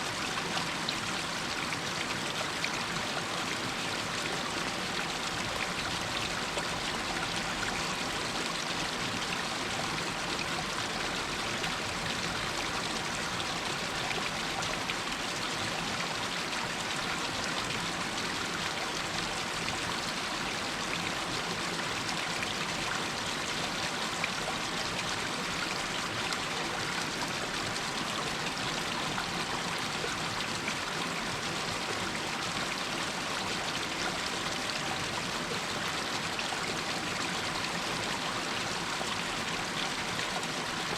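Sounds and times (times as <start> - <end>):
stream water splashing over rocks: 0.1 - 40.9.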